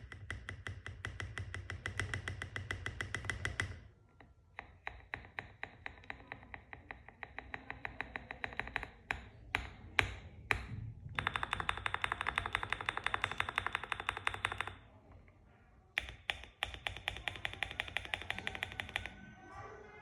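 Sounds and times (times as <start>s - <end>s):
mechanical keyboard typing: 0.0s - 3.8s, 5.6s - 14.9s, 16.0s - 19.2s.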